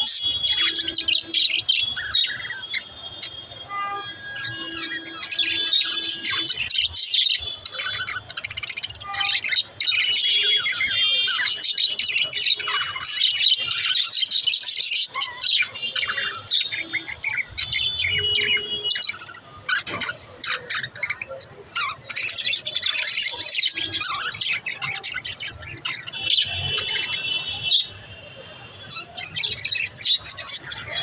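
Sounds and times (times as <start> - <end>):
budgerigars chirping and chattering: 0.0 - 31.0.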